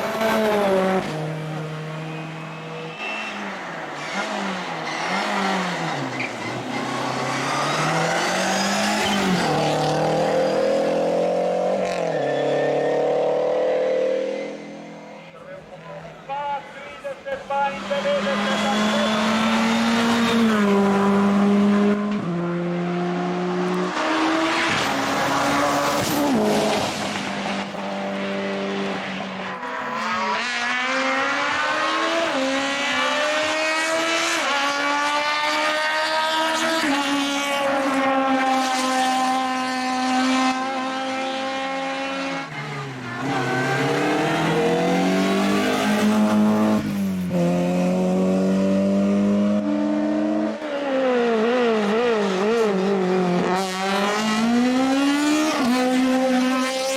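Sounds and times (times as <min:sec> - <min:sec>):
race car engine at full throttle: 0:00.0 - 0:56.9.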